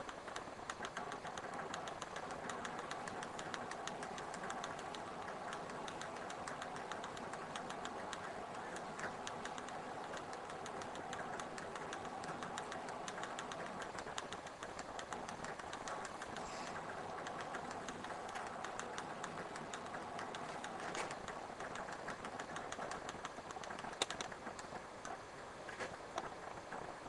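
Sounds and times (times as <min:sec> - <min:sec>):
fingertips tapping on touchscreen: 0:00.0 - 0:26.9
steady background hum: 0:00.0 - 0:27.0.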